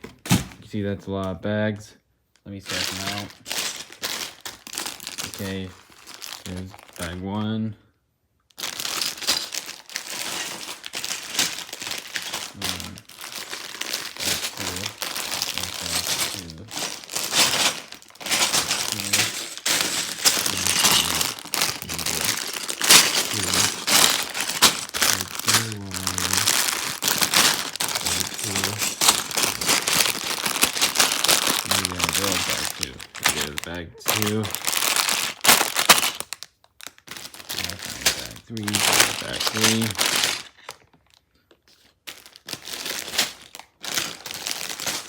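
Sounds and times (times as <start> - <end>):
plastic bags crinkling: 2.6 - 7.3, 8.5 - 45.0.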